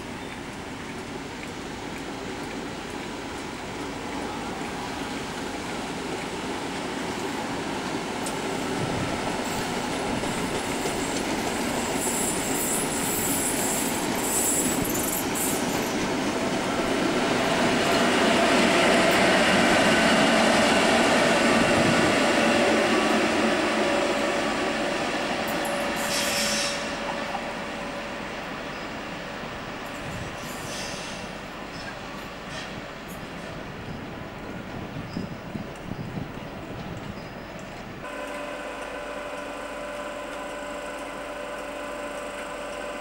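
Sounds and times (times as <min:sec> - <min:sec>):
train wheels rumbling and squealing: 0:08.2 - 0:43.0.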